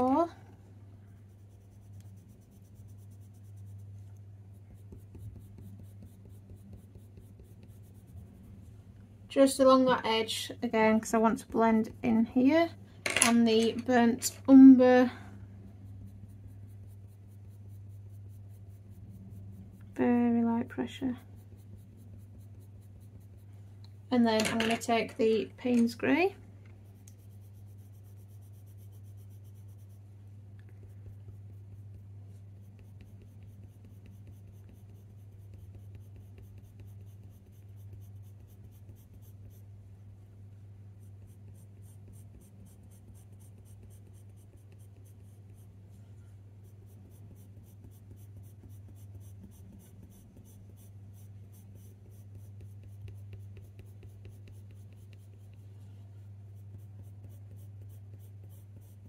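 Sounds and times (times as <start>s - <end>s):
coloured pencil scratching on paper: 0.0s - 0.4s, 1.0s - 8.8s, 9.5s - 12.7s, 13.3s - 23.6s, 24.2s - 39.8s, 40.8s - 59.0s
steady low hum: 0.0s - 59.0s.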